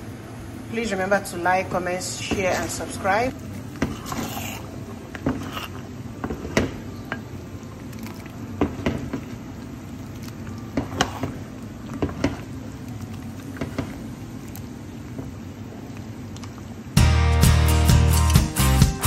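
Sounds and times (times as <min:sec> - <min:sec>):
thick soup bubbling: 0:01.3 - 0:17.0.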